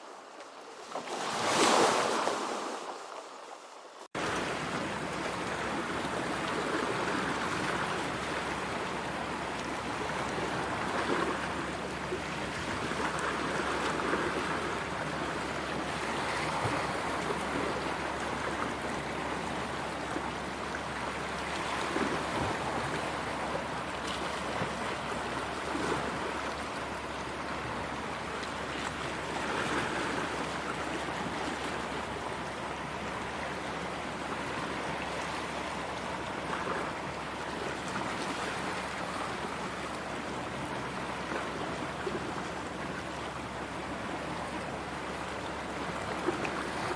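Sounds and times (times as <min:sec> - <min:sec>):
ocean waves washing ashore: 0:00.0 - 0:46.9.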